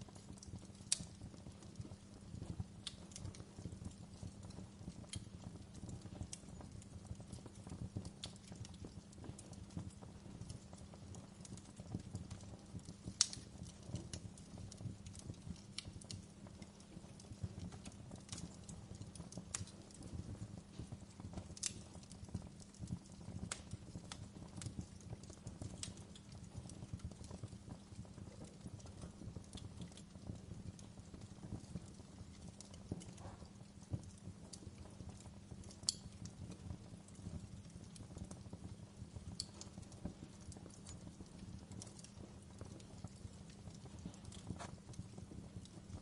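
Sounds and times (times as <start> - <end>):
fire crackling and snapping: 0.0 - 46.0
low rumble of flame: 0.0 - 46.0.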